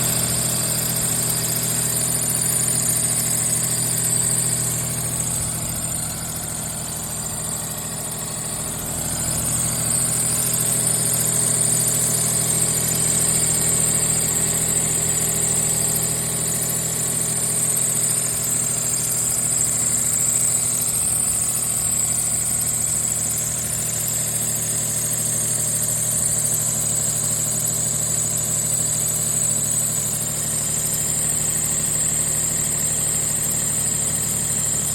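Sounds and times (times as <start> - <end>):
car engine idling: 0.0 - 34.9
high-pitched engine whine: 0.0 - 34.9.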